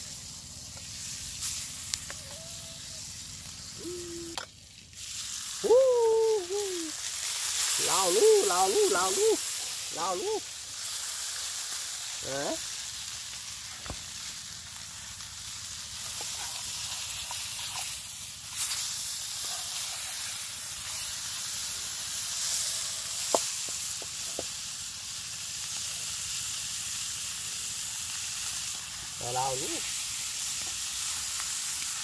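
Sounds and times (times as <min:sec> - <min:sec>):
fish sizzling in oil: 0:00.0 - 0:32.0.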